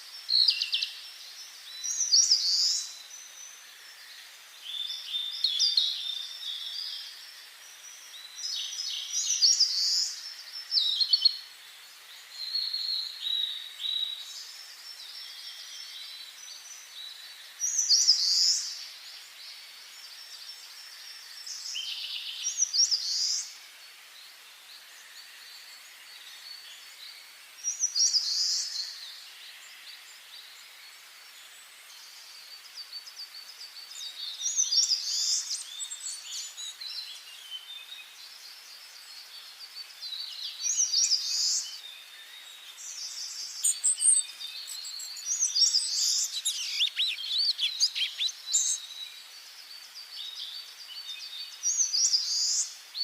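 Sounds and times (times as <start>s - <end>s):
faint steady hiss: 0.0s - 53.0s
songbirds singing: 0.0s - 53.0s.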